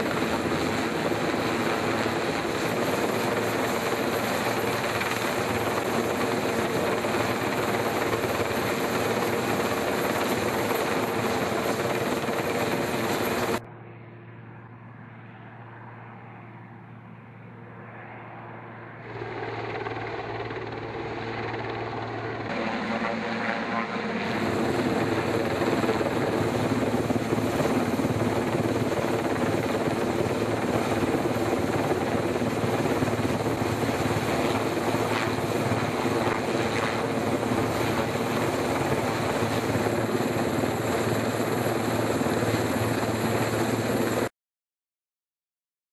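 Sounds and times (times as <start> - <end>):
helicopter humming: 0.0 - 44.3.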